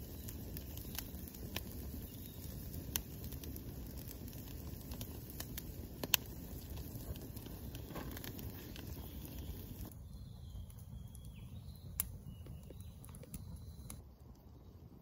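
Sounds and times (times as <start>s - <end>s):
campfire crackling: 0.0s - 15.0s
fire popping: 0.0s - 15.0s
rush of flames: 0.0s - 15.0s.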